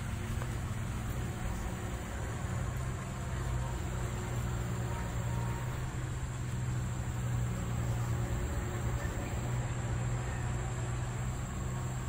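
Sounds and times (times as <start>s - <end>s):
heavy engine droning: 0.0s - 12.0s.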